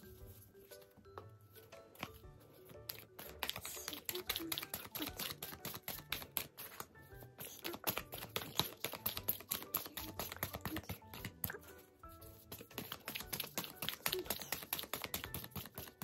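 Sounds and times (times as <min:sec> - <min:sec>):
cards being shuffled: 0:00.0 - 0:16.0
soft background music: 0:00.0 - 0:16.0.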